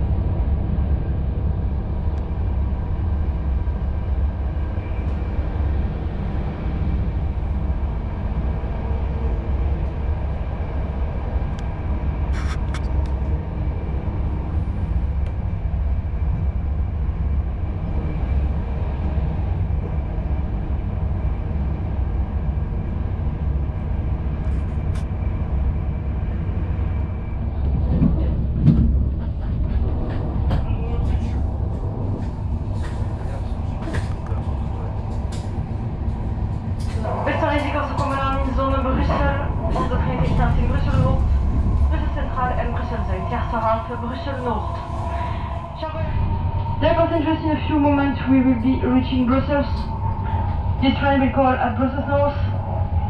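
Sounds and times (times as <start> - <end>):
train rumbling on rails: 0.0 - 53.0.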